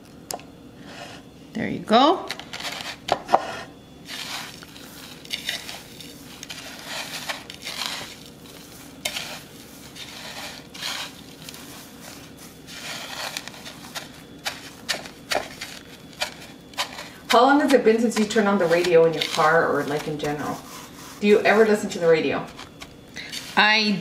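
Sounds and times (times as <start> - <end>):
faint steady hum: 0.0 - 24.0
breadcrumbs scraping on ceramic plate: 2.3 - 23.7.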